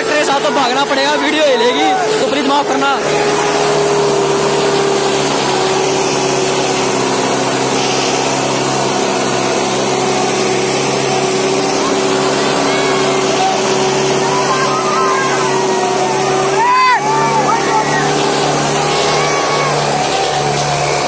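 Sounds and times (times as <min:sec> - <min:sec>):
tractor diesel engine running hard: 0:00.0 - 0:21.0.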